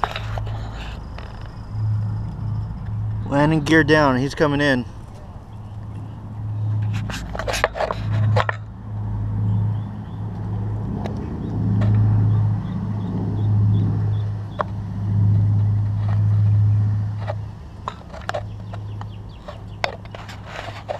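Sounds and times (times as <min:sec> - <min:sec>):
aircraft engines droning: 0:00.0 - 0:20.9.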